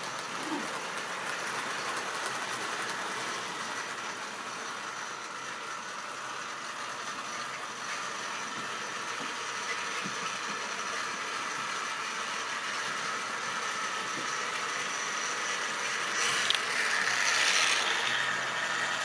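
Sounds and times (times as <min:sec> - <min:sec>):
small electric motors whirring: 0:00.0 - 0:19.0.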